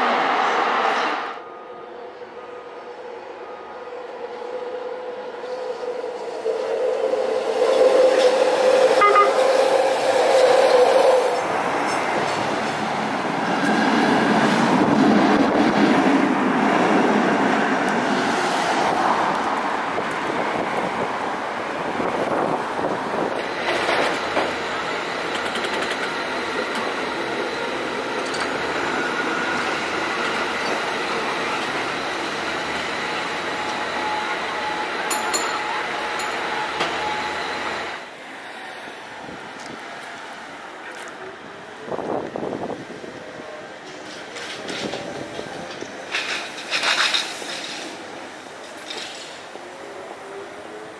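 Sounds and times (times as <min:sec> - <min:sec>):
cable car passing: 0:00.0 - 0:50.9
streetcar passing: 0:00.0 - 0:50.9
train cars rumbling past: 0:00.0 - 0:50.9
train whine: 0:00.0 - 0:50.9.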